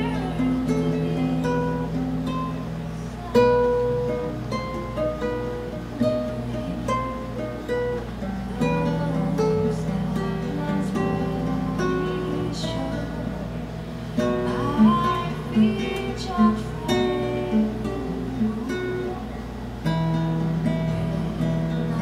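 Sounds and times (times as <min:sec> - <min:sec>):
classical guitar fingerstyle: 0:00.0 - 0:22.0.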